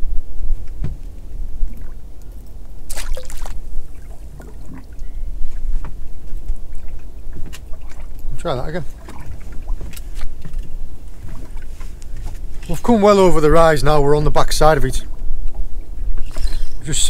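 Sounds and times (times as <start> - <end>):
low rumble of wind: 0.0 - 17.0
water lapping at hull: 0.6 - 17.0.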